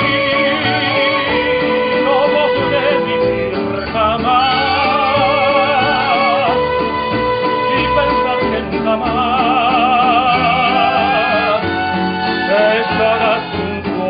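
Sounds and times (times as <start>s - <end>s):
man singing: 0.0s - 14.0s
mariachi band playing: 0.0s - 14.0s.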